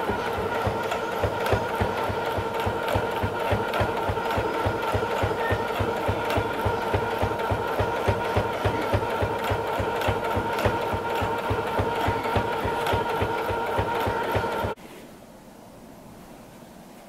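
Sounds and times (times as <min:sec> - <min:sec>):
sewing machine stitching: 0:00.0 - 0:14.8.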